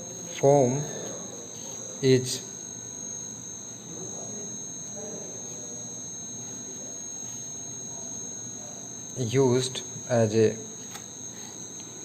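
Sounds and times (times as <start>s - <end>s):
high-pitched two-tone whine: 0.0s - 12.0s.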